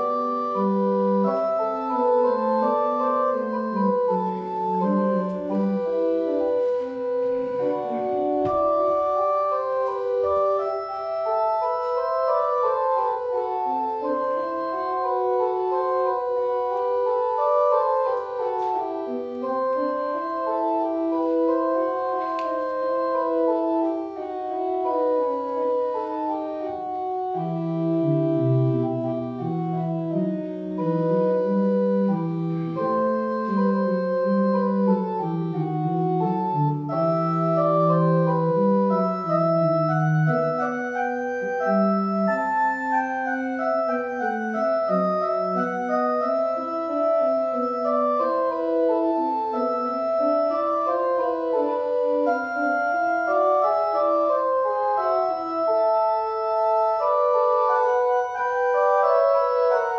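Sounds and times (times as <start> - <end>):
organ playing held chords: 0.0 - 59.9.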